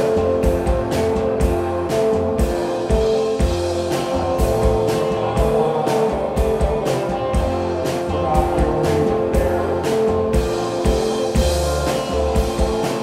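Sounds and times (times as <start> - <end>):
drum kit beat with cymbals: 0.0 - 13.0
electric guitars ringing: 0.0 - 13.0.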